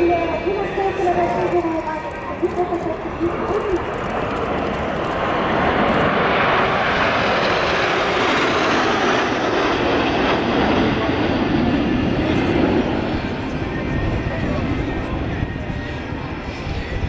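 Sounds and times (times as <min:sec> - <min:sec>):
jet aircraft flying past: 0:00.0 - 0:17.0.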